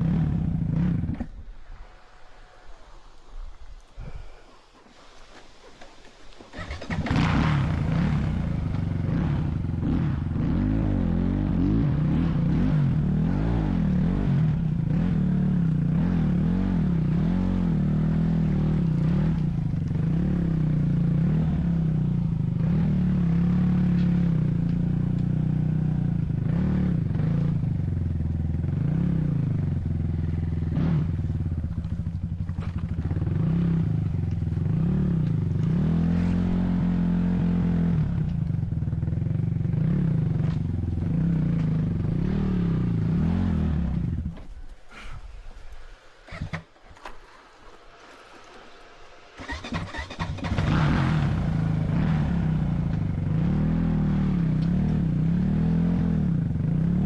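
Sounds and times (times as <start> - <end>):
vehicle engine revving: 0.0 - 1.4, 6.4 - 45.1, 49.1 - 57.0.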